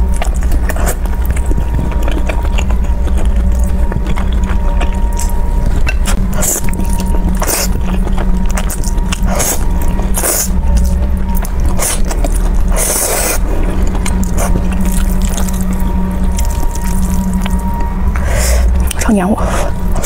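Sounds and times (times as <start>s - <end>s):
chewing: 0.0s - 20.0s
low hum: 0.0s - 20.0s.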